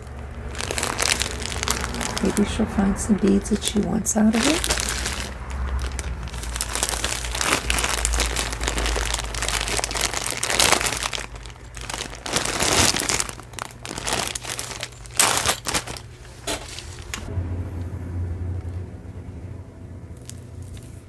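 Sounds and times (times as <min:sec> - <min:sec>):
plastic bags crinkling: 0:00.0 - 0:17.3, 0:20.2 - 0:21.0.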